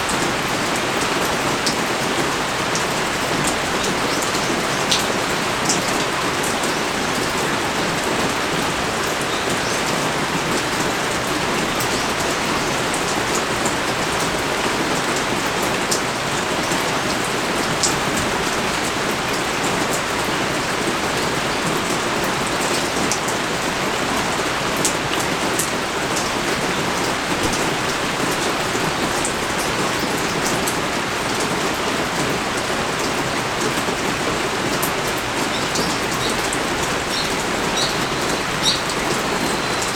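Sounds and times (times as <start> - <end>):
pouring rain: 0.0 - 39.9.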